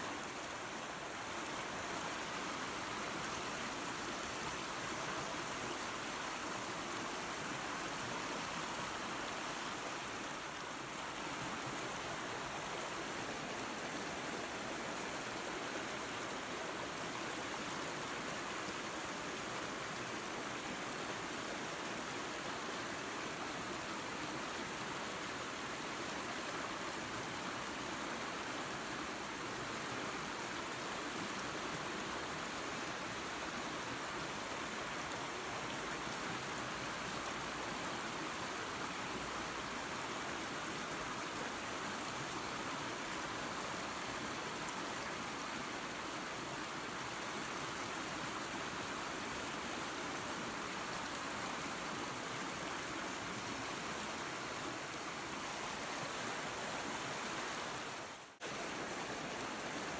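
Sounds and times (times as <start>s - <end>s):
creek water over small waterfall: 0.0s - 59.9s.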